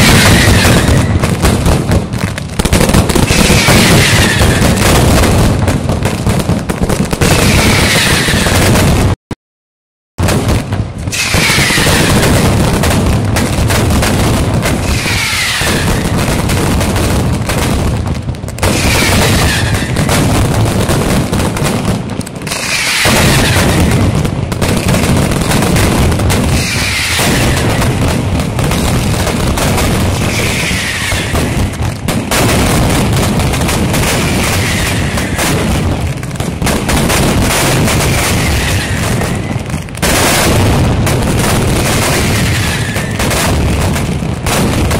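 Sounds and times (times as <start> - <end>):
firecrackers exploding: 0.0 - 9.2, 10.2 - 44.9.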